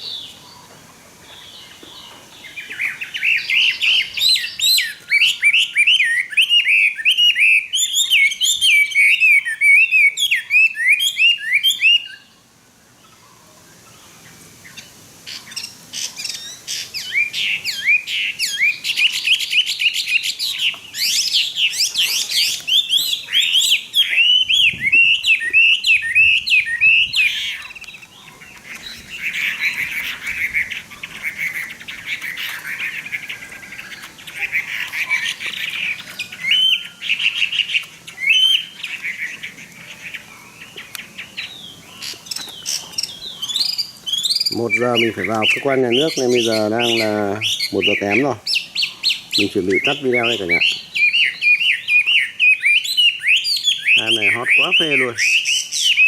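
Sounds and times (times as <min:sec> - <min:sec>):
songbird whistling song: 0:00.0 - 0:56.0.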